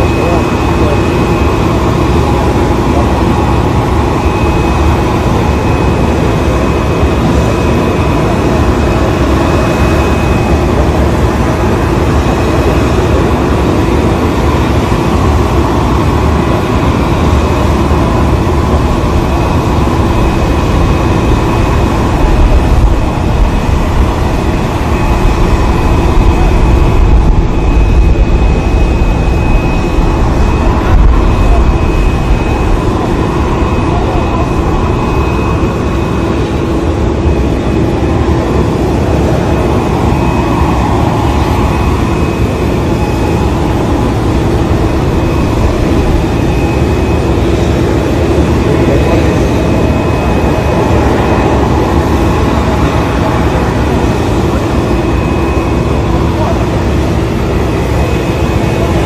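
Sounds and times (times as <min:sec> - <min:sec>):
jet airliner machinery drone: 0:00.0 - 0:59.0.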